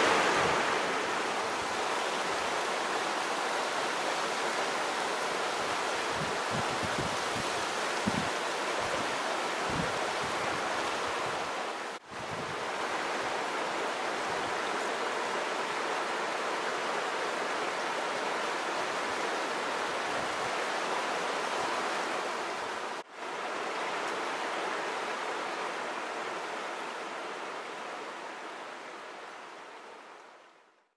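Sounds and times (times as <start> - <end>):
river rushing over stones: 0.0 - 30.4.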